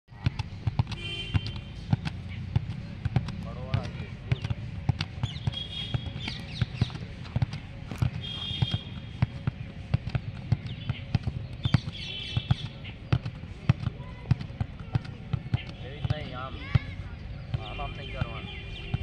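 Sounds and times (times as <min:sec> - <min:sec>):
sharp knocks and thumps: 0:00.2 - 0:16.9.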